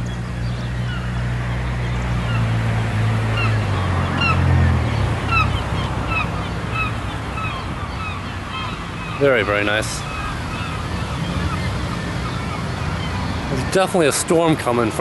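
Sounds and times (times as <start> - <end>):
engine humming: 0.0 - 15.0
small birds chirping: 0.0 - 15.0.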